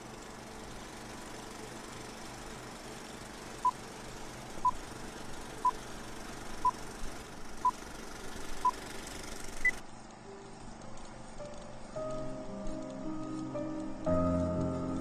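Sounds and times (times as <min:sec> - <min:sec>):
film projector whirring: 0:00.0 - 0:15.0.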